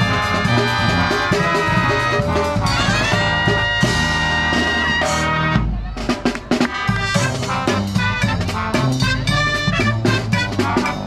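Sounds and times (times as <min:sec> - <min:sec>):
brass marching band playing: 0:00.0 - 0:11.0.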